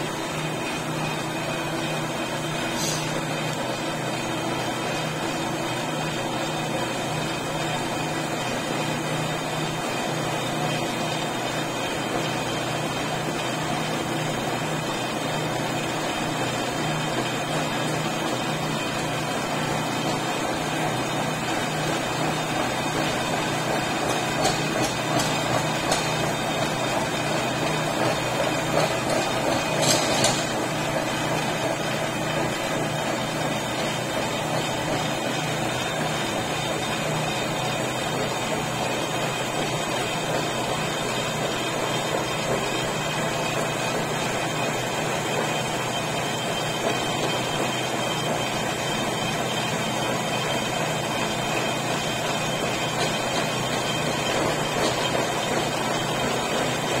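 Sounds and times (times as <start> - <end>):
metal lathe humming: 0.0 - 57.0.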